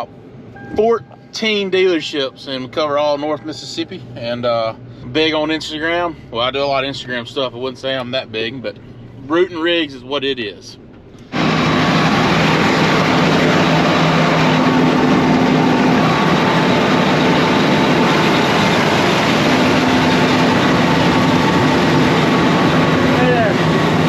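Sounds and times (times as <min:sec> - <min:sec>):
diesel farm machine running: 0:00.0 - 0:24.0.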